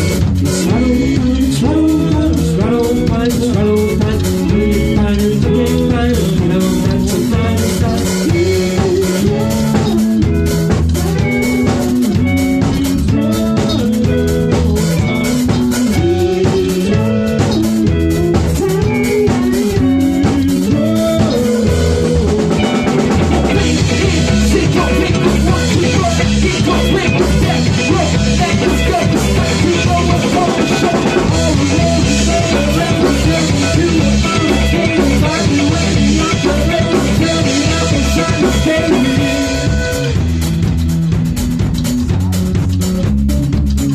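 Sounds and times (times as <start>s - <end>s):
live rock band: 0.0s - 43.9s.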